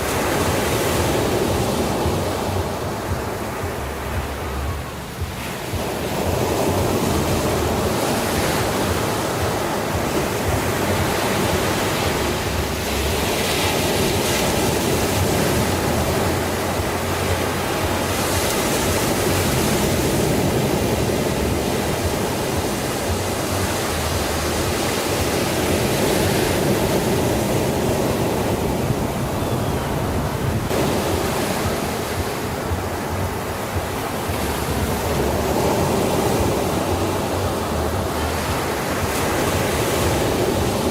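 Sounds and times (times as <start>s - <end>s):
ocean waves rushing: 0.0s - 40.9s.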